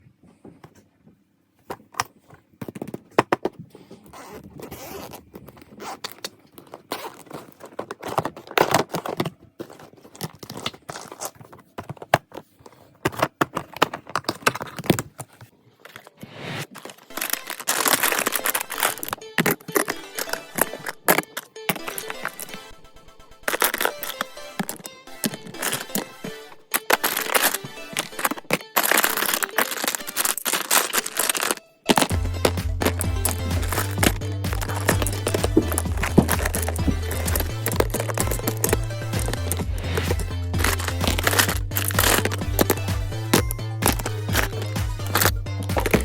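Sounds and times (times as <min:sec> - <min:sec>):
scraping and crinkling: 0:00.3 - 0:22.7, 0:23.4 - 0:46.0.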